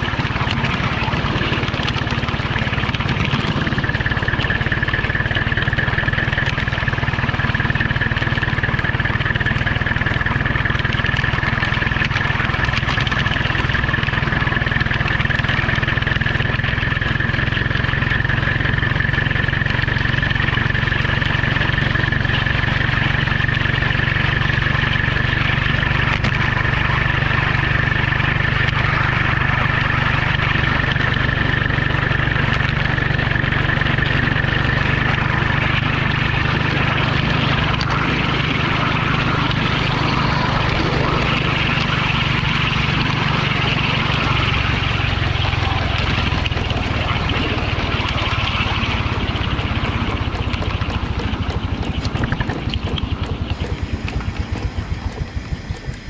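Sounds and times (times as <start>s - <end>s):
motor high whine: 0.0s - 56.0s
motor low drone: 0.0s - 56.0s.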